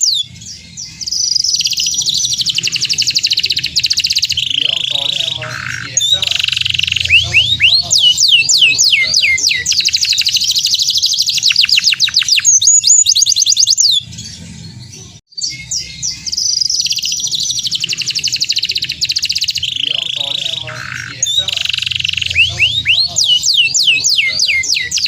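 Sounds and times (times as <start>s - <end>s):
canary singing trills: 0.0s - 25.0s.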